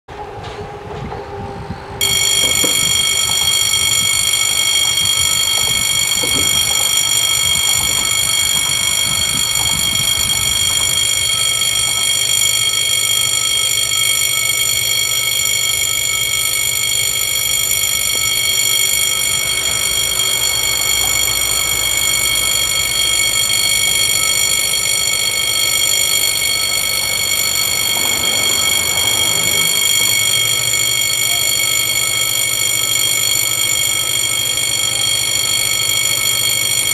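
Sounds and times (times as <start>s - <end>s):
level crossing warning bells: 2.0s - 36.9s.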